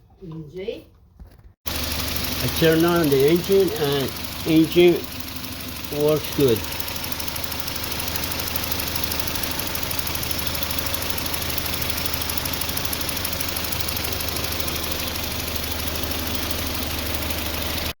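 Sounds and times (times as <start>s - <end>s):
car engine idling: 1.7s - 18.0s.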